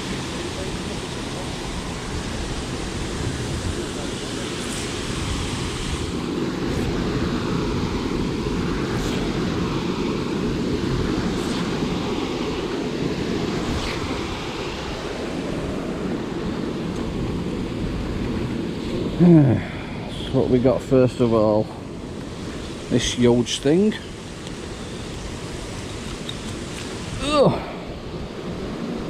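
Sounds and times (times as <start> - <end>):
rushing canal water: 0.0 - 29.0
wind buffeting microphone: 0.0 - 29.0.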